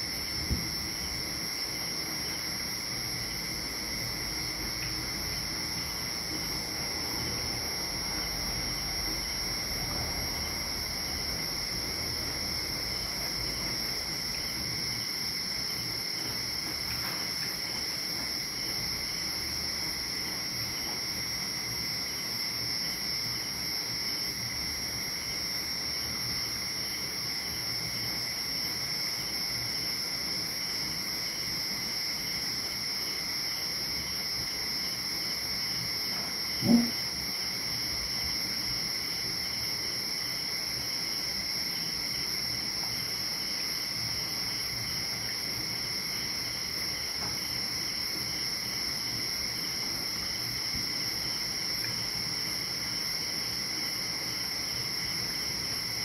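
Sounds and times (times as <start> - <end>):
crickets chirring: 0.0 - 56.0.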